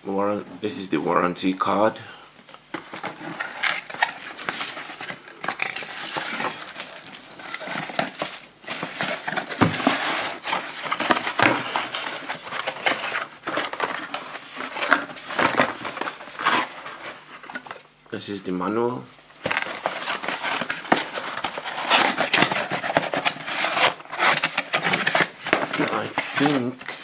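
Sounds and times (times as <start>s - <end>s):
packaging rustling and crinkling: 2.7s - 17.9s, 19.3s - 27.0s.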